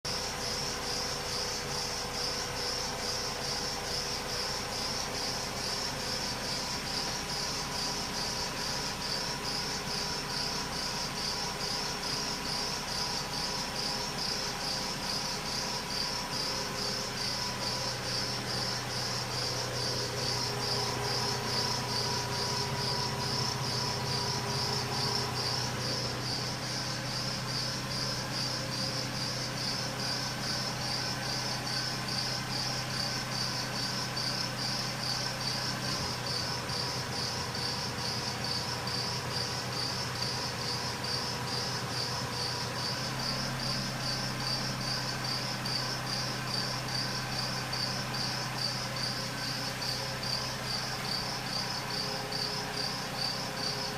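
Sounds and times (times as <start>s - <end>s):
engine idling hum: 0.0s - 53.9s.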